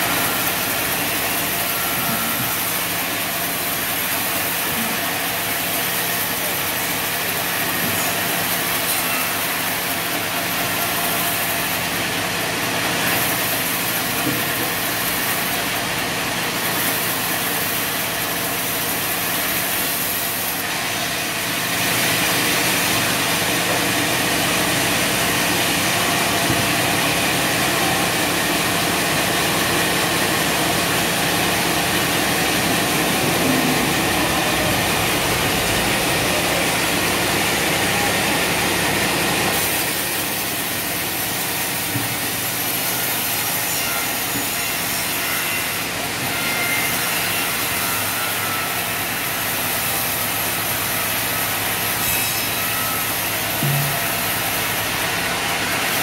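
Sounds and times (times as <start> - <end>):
band saw cutting timber: 0.0 - 56.0.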